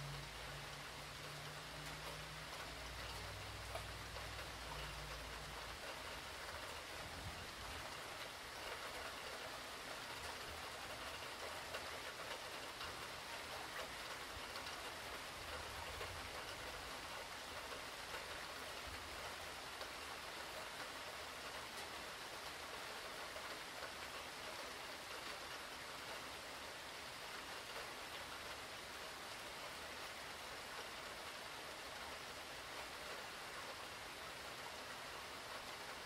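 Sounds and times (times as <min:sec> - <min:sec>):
heavy rain hiss: 0:00.0 - 0:36.0.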